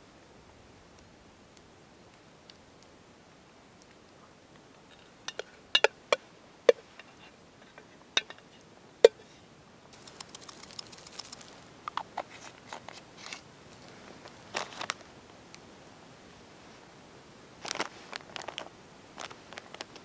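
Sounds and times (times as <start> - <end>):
soft crackling and rustling: 0.1 - 5.6, 6.8 - 20.0.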